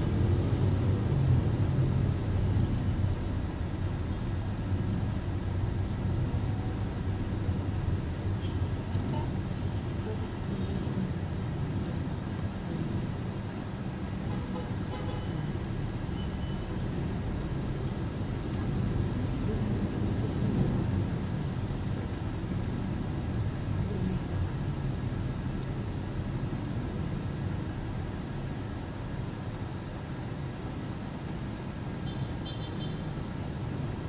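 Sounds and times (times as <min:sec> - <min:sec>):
engine and tyres rumbling: 0:00.0 - 0:34.0.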